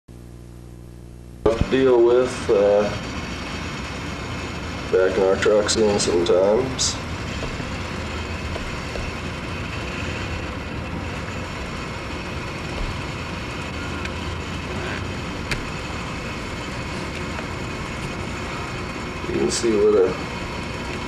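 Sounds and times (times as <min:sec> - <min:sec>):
heavy road traffic hum: 0:01.5 - 0:21.0.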